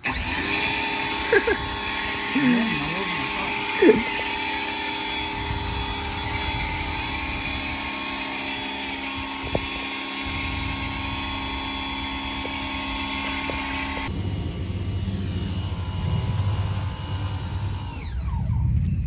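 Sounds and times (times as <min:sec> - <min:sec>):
pressure washer droning: 0:00.0 - 0:19.0.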